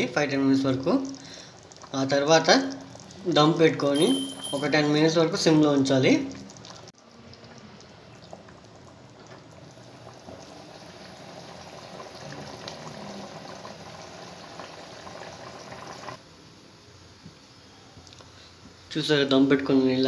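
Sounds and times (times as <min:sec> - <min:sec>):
pot boiling and bubbling: 0:00.0 - 0:16.2.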